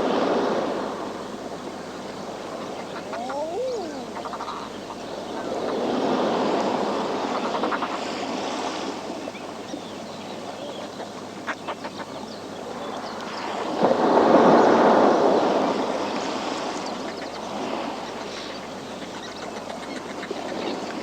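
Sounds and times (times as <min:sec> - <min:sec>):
seabirds calling: 0:01.1 - 0:13.8, 0:14.4 - 0:21.0.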